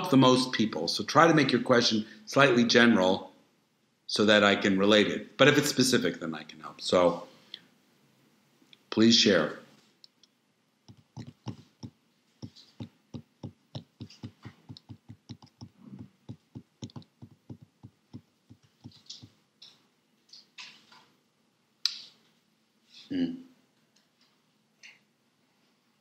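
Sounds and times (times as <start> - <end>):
soft hissy sounds: 0.0 - 26.0.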